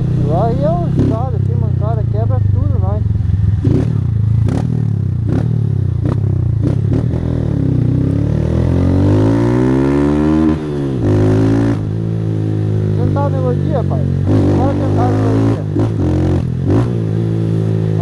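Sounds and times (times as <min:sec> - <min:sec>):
motorcycle accelerating hard: 0:00.0 - 0:18.0.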